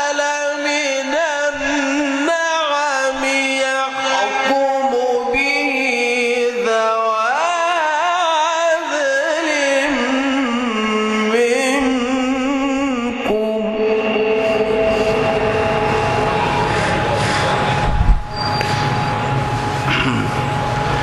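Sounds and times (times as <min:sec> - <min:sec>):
man reciting melodically: 0:00.0 - 0:17.8.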